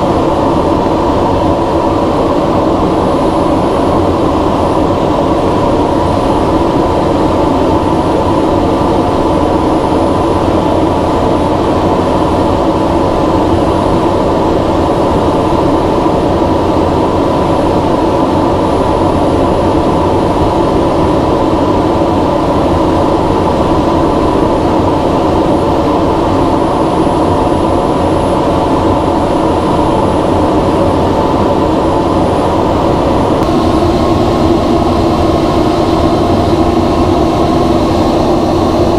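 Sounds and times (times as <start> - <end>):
jet cockpit drone: 0.0 - 38.9.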